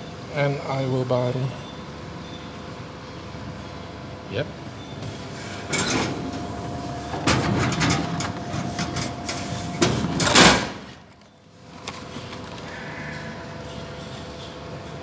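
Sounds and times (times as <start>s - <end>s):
vending machine humming and rattling: 0.0s - 12.7s.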